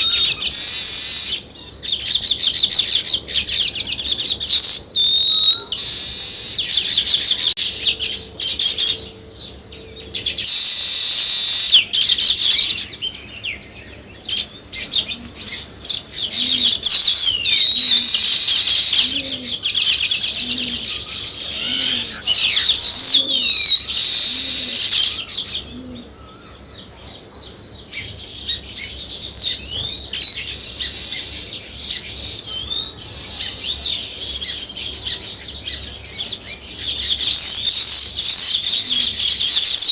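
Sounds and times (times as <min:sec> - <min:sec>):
birds chirping and chattering: 0:00.0 - 0:39.9.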